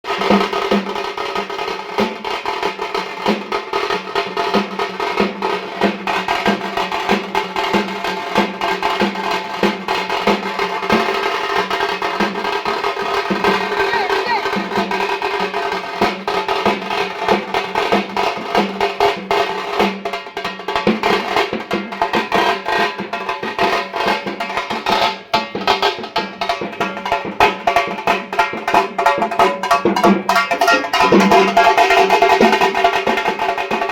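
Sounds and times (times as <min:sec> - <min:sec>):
fast dense drumming: 0:00.0 - 0:33.9.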